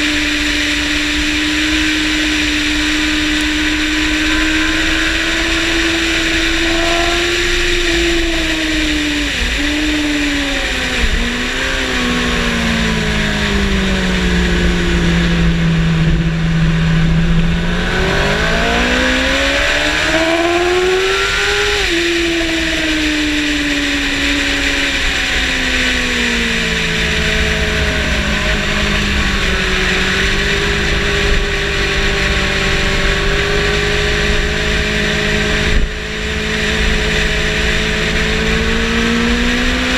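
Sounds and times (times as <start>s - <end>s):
wind rush: 0.0s - 39.8s
motorcycle engine revving: 0.0s - 39.9s.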